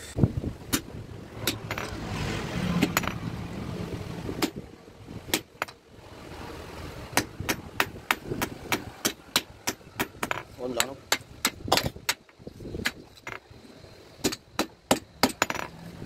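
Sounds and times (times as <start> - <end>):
low rumbling noise: 0.0 - 14.6.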